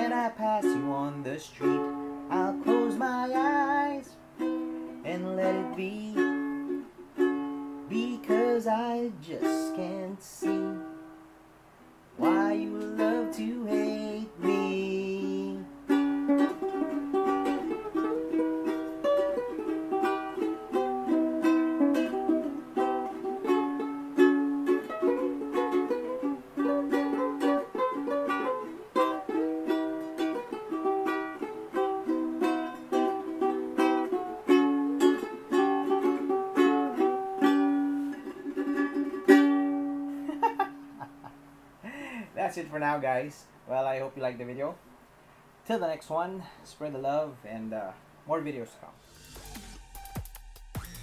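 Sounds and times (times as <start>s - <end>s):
ukulele strumming and picking: 0.0s - 44.7s.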